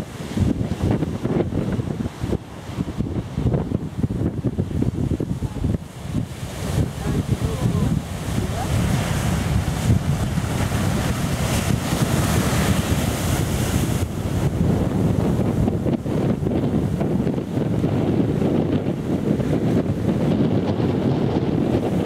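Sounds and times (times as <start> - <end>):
surf breaking: 0.0 - 18.4
wind buffeting microphone: 0.0 - 22.0.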